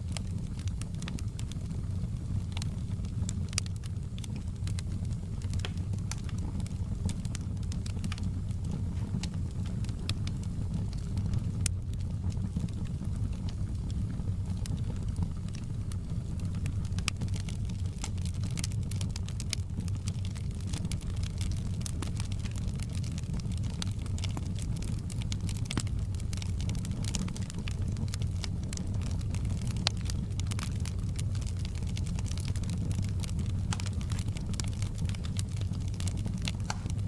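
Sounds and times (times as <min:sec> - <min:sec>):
low rumble of flames: 0:00.0 - 0:37.0
wood fire crackling and popping: 0:00.0 - 0:37.0.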